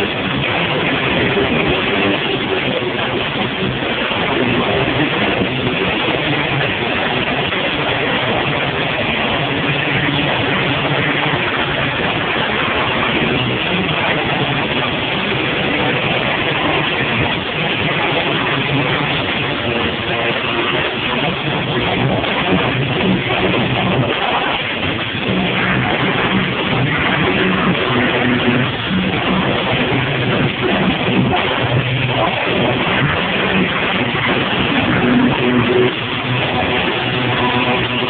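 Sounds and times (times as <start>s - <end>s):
electric guitar: 0.0s - 38.0s.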